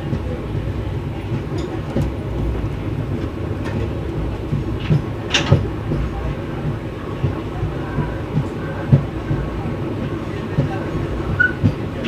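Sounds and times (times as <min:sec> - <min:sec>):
train wheels clacking: 0:00.0 - 0:12.0
train wheels rumbling on track: 0:00.0 - 0:12.0.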